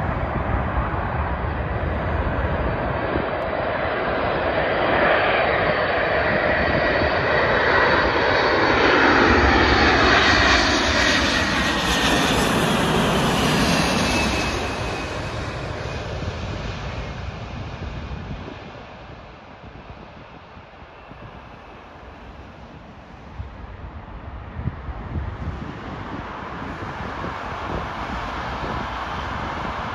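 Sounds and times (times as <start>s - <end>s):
jet airliner passing overhead: 0.0s - 29.9s.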